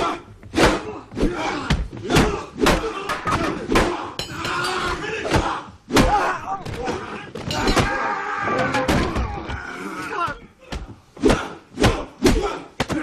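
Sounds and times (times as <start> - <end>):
men grunting and shouting: 0.0 - 13.0.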